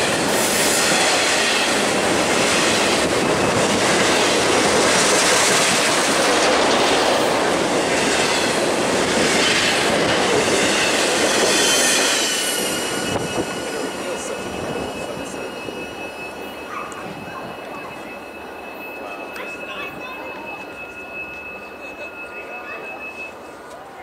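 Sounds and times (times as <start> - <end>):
freight train cars rolling past: 0.0 - 24.0.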